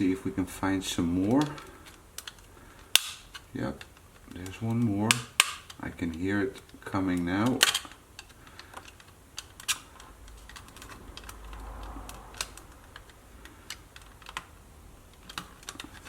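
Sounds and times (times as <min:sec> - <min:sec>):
plastic case clips clicking: 0:01.2 - 0:16.0.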